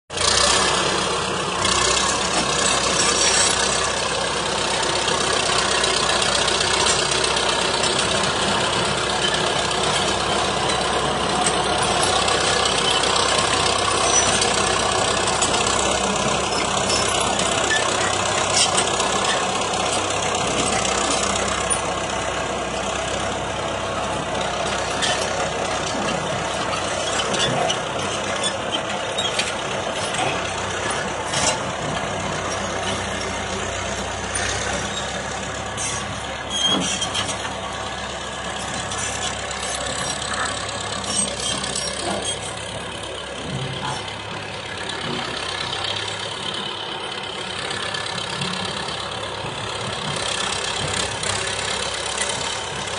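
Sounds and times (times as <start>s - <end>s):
diesel engine running: 0.1s - 52.9s.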